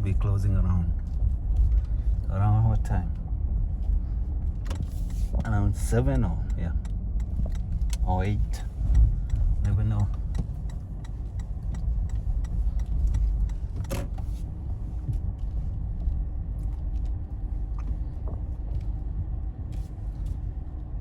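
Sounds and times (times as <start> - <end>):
car engine and tyres rumbling: 0.0 - 21.0
faint clicks and rattles: 0.9 - 21.0.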